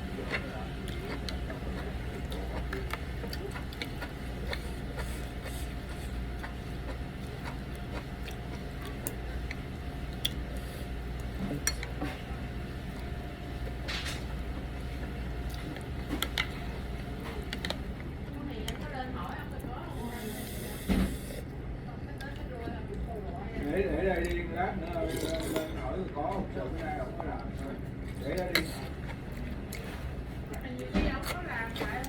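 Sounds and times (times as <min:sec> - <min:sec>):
restaurant background hum: 0:00.0 - 0:32.0.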